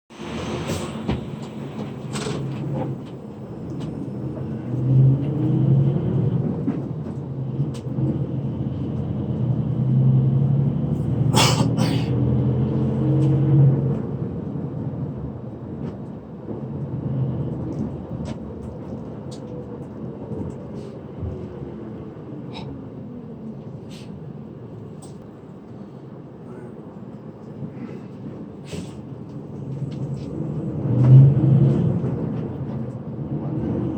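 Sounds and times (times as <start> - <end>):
bus engine accelerating: 0.1 - 33.9
road rumble: 0.1 - 33.9.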